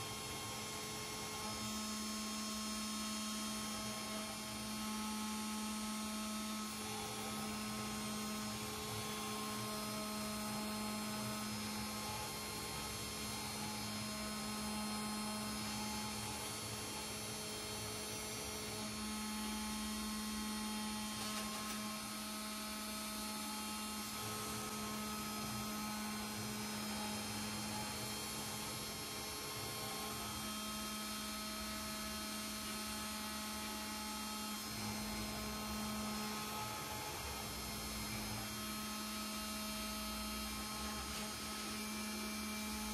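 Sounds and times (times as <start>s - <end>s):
spindle motor humming: 1.2s - 42.9s.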